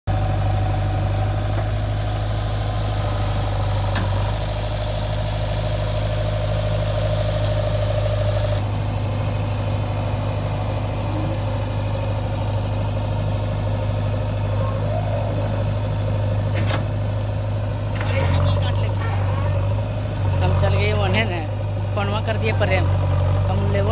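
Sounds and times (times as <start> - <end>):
heavy diesel engine idling: 0.1 - 23.9.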